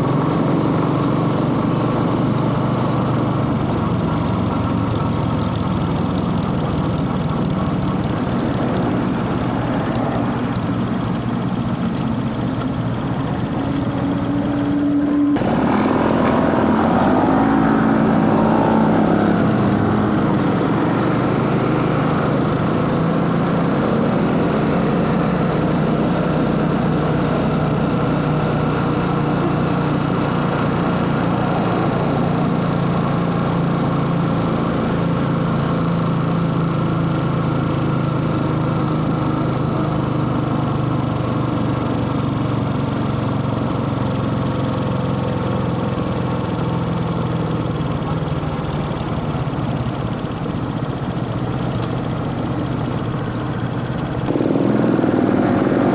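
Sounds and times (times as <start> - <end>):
motorcycle engine running steadily: 0.0 - 55.9.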